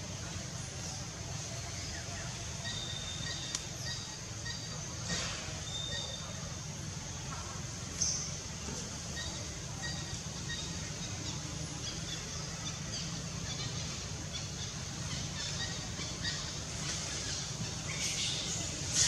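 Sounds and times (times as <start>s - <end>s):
faint bird chirps: 0.6s - 19.0s.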